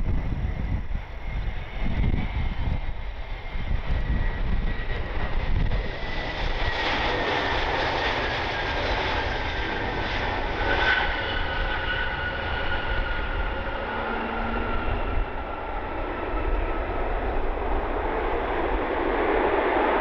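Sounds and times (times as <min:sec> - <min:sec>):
jet airliner engine roar: 0:00.0 - 0:20.0
wind rumble on microphone: 0:00.0 - 0:20.0.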